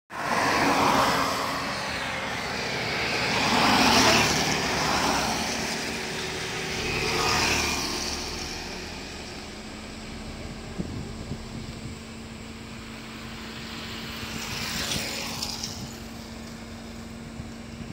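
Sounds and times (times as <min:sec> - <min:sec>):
traffic passing on a road: 0:00.1 - 0:17.9.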